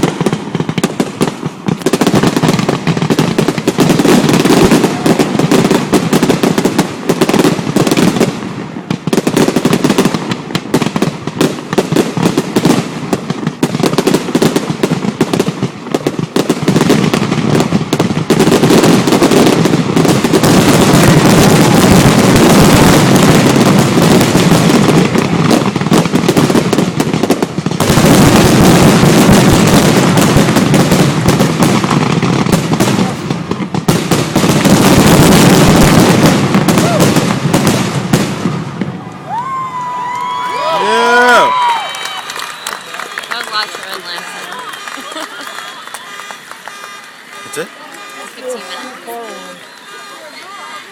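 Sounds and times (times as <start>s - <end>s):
fireworks bursts and crackling: 0.0s - 50.9s.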